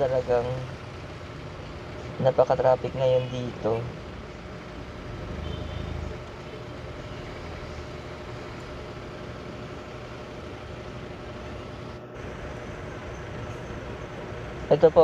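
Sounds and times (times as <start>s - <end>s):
traffic engines idling rumble: 0.0s - 15.0s.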